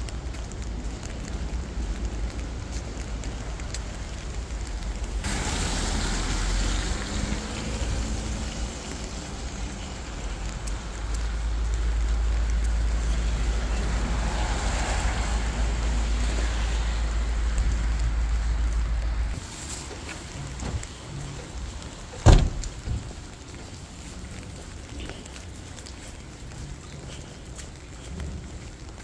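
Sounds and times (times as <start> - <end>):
deep traffic rumble: 0.0 - 29.0
rain hissing: 0.0 - 29.0
tyres on wet pavement: 0.0 - 29.0.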